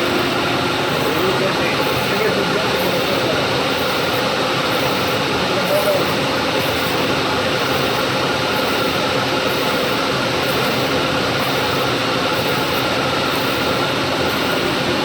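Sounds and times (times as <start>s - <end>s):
lathe whirring: 0.0s - 15.0s.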